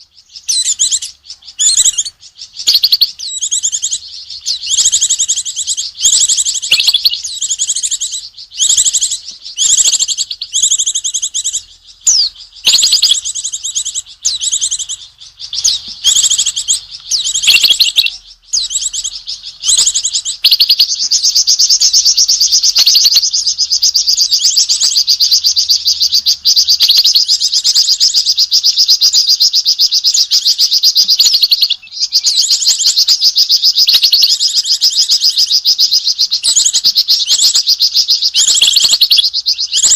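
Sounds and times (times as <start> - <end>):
songbird chattering: 0.0 - 39.9.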